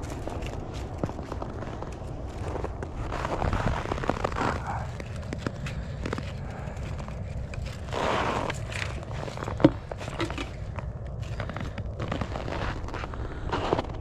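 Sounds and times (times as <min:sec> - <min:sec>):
footsteps crunching on snow: 0:00.0 - 0:14.0
steady low rumble: 0:00.0 - 0:14.0.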